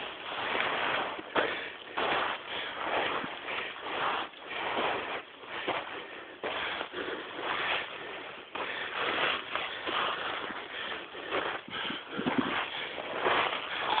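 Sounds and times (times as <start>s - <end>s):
footsteps crunching on rock and sand: 0.0s - 14.0s.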